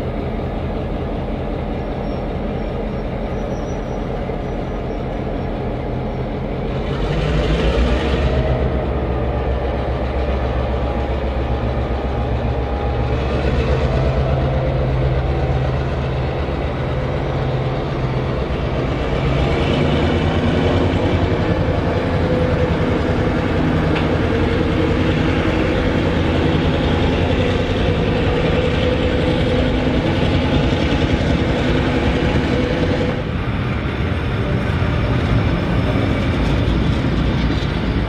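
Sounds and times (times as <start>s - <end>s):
train carriages rumbling on rails: 0.0s - 38.0s.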